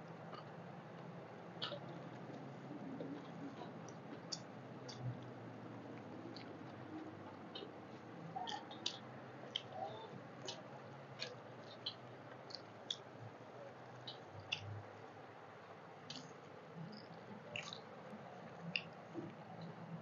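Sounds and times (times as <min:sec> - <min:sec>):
people chewing: 0:00.1 - 0:15.2, 0:16.0 - 0:19.8
mouth clicks and smacks: 0:00.2 - 0:14.9, 0:16.0 - 0:19.8.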